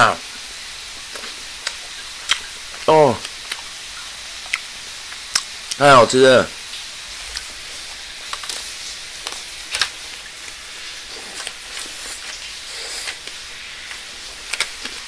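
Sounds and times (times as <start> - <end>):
steady hiss: 0.0 - 15.0
eating clicks and rustles: 1.0 - 5.8, 7.2 - 15.0.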